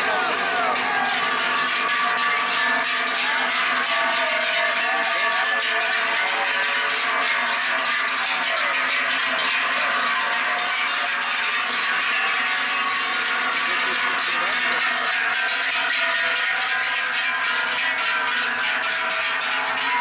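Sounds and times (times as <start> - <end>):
cowbells clanging: 0.0 - 20.0.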